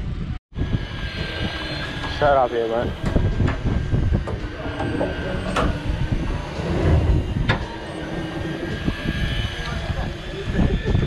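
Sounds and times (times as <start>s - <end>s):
boat engine rumble: 0.5s - 11.0s.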